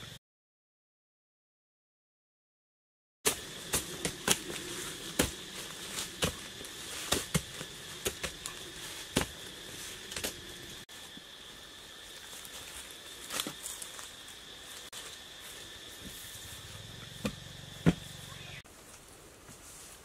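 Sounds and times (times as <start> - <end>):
insect drone: 0.0 - 0.2, 3.3 - 20.0.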